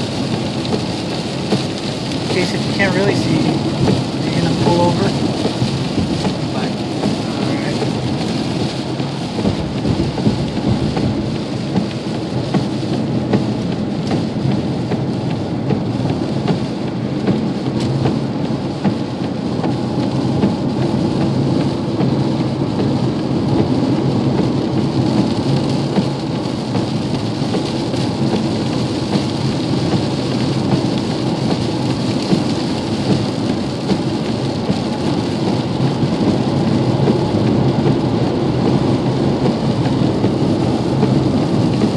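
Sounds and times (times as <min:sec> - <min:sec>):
heavy rain on a vehicle roof: 0:00.0 - 0:41.9
tyres rumbling on wet road: 0:00.0 - 0:41.9.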